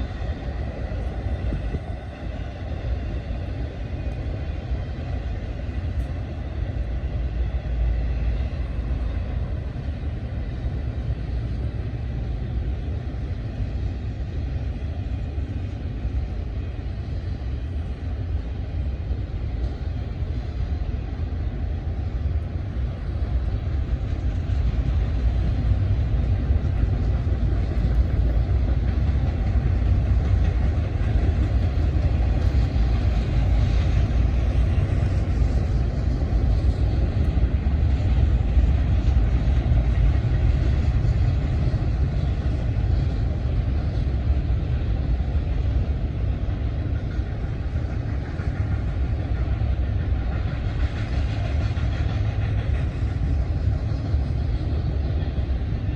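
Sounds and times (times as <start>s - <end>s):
train passing at speed: 0.0s - 55.9s.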